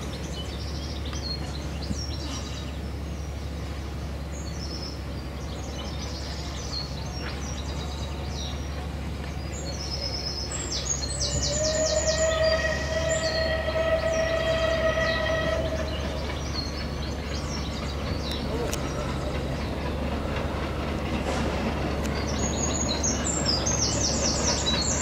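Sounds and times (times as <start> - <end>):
low outdoor rumble: 0.0 - 25.0
songbirds chirping and singing: 0.0 - 25.0.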